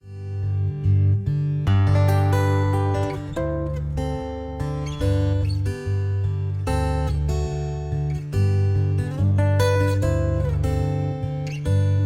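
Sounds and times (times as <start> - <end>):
acoustic guitar background music: 0.0 - 12.0.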